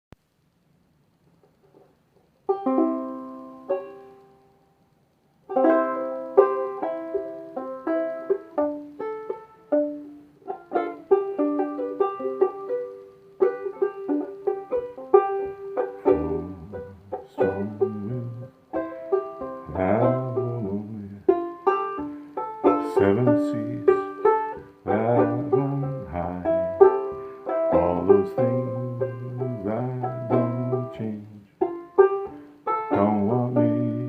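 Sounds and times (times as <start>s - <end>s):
plucked string chords: 2.5s - 4.6s, 5.5s - 34.0s
picked string melody: 2.5s - 4.8s, 5.5s - 34.0s.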